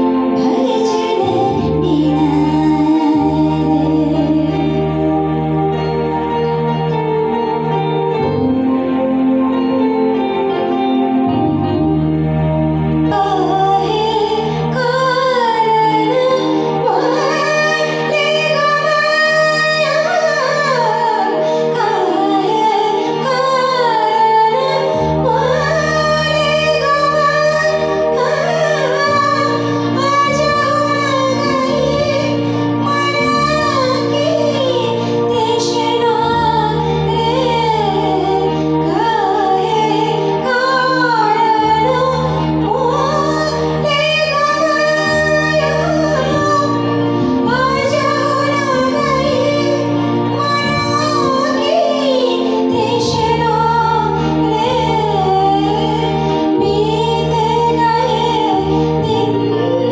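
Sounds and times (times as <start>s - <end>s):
woman singing devotional song: 0.0s - 5.2s, 13.1s - 59.9s
instrumental accompaniment: 0.0s - 59.9s.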